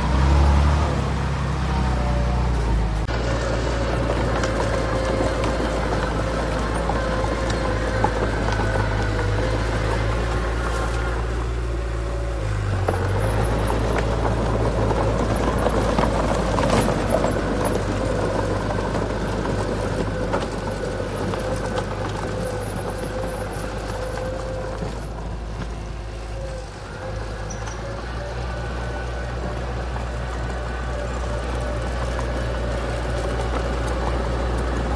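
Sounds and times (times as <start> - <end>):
heavy machinery diesel engine: 0.0 - 34.9
machinery clatter: 2.6 - 11.5, 12.5 - 34.9.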